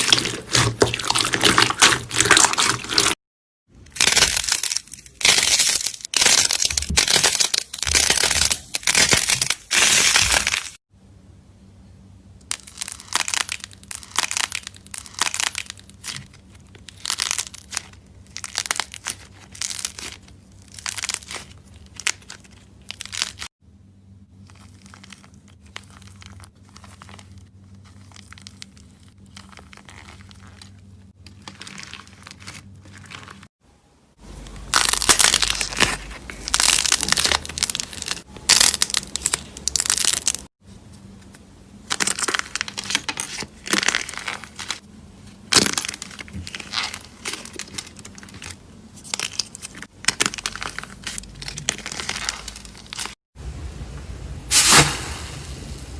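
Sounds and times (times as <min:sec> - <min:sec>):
slime crackling and popping: 0:00.0 - 0:03.2, 0:03.8 - 0:10.8, 0:12.5 - 0:23.5, 0:24.4 - 0:33.5, 0:34.5 - 0:40.5, 0:41.9 - 0:44.8, 0:45.5 - 0:53.2.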